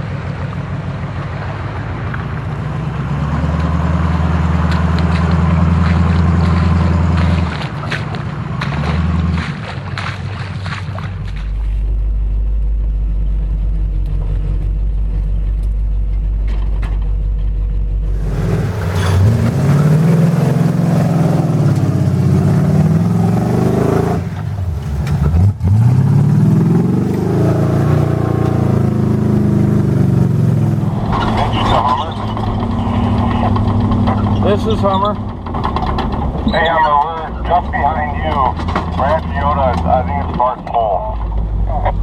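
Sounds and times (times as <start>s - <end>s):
off-road engine rumbling and revving: 0.0s - 42.0s.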